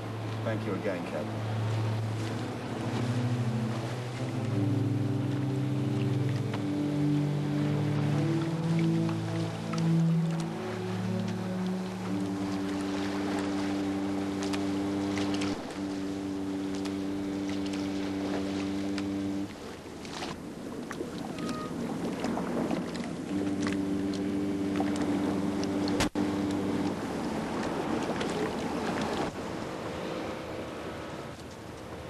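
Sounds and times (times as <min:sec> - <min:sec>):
ship's horn blasts: 0:00.0 - 0:20.3, 0:21.1 - 0:32.0
water washing: 0:00.0 - 0:32.0
wind: 0:00.0 - 0:32.0.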